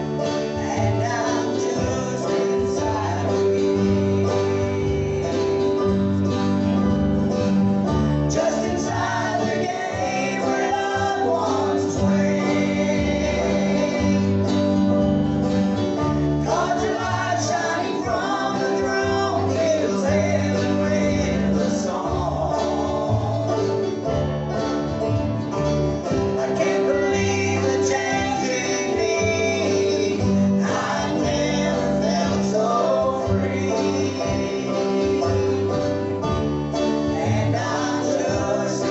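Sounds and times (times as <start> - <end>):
acoustic guitar and plucked strings: 0.0 - 38.9
bass line: 0.0 - 38.9
voices singing: 0.0 - 38.9.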